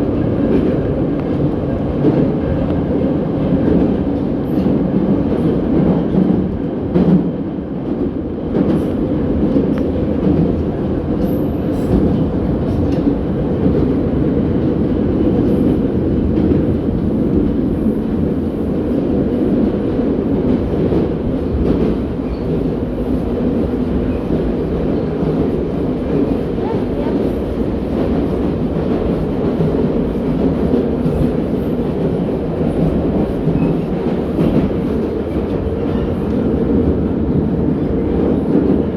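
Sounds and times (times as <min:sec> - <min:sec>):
metro train rumbling: 0:00.0 - 0:38.9.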